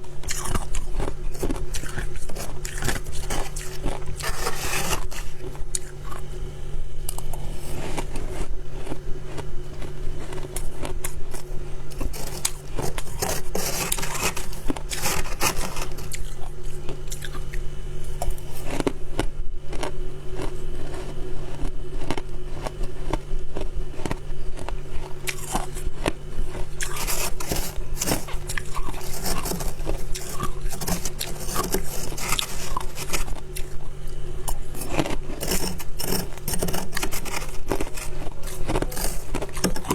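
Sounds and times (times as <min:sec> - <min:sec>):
crunchy ice chewing: 0:00.0 - 0:06.4, 0:07.0 - 0:39.9.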